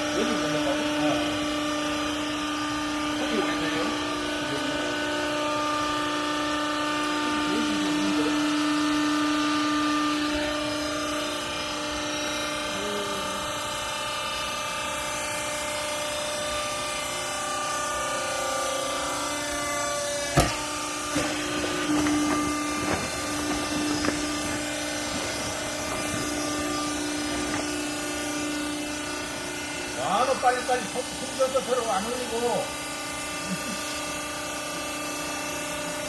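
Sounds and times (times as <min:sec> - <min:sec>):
hydraulic pump motor humming: 0:00.0 - 0:36.0.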